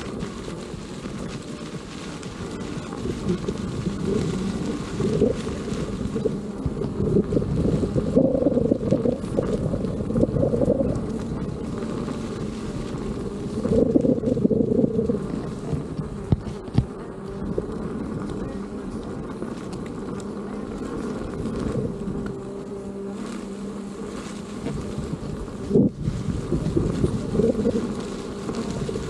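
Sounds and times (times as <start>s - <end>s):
electric motor whining: 0.0s - 29.0s
wind rumbling on microphone: 0.0s - 29.0s.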